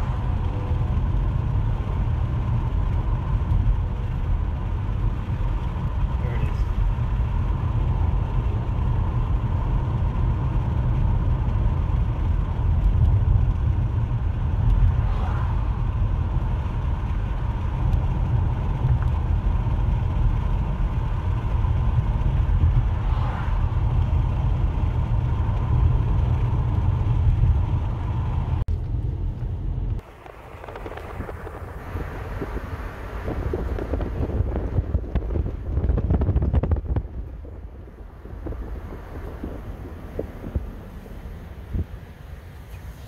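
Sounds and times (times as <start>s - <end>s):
car road rumble from inside: 0.0s - 43.0s.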